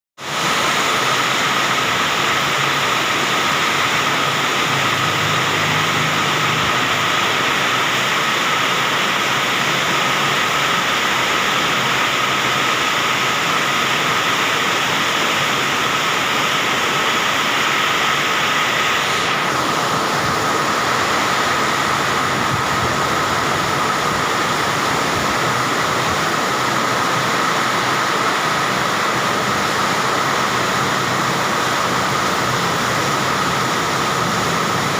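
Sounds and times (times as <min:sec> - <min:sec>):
heavy rain in strong wind: 0:00.2 - 0:34.9.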